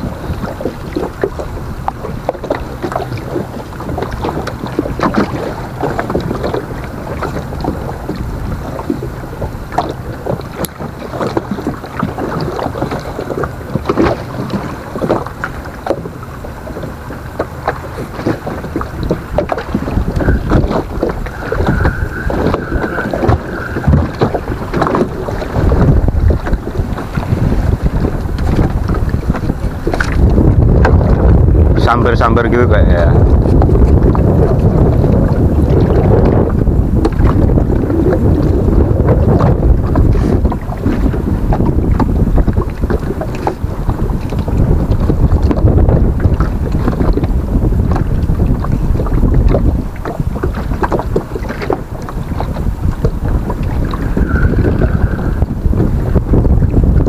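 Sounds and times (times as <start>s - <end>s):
water slapping a wooden boat: 0.0s - 57.0s
wind buffeting microphone: 0.0s - 57.0s.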